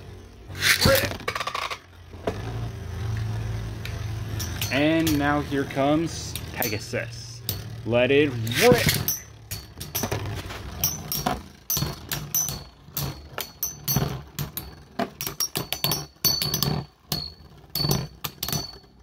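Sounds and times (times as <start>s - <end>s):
high whine of spinning tops: 0.0s - 19.0s
spinning tops clacking together: 0.5s - 1.9s, 3.0s - 19.0s.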